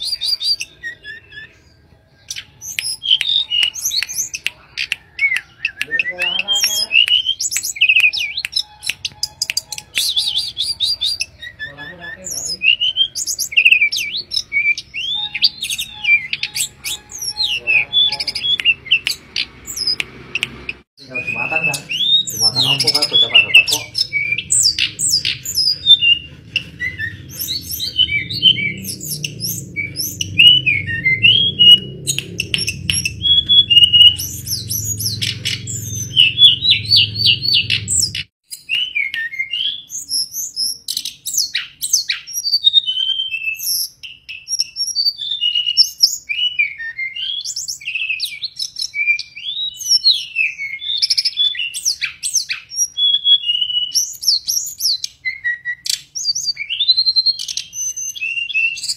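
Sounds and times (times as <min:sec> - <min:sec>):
bird singing whistled phrases: 0:00.0 - 0:58.9.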